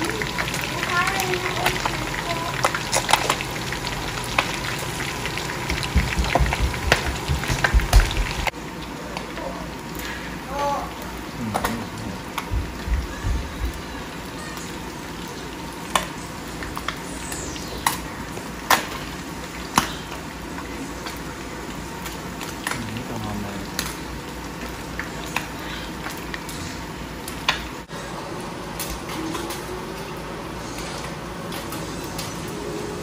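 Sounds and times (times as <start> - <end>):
fish sizzling in oil: 0.0 - 11.5, 12.1 - 33.0.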